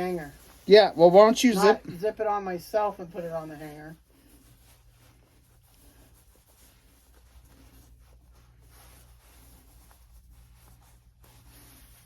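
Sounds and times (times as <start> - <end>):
clothing rustling: 0.0 - 12.0
low steady hum: 0.0 - 12.0.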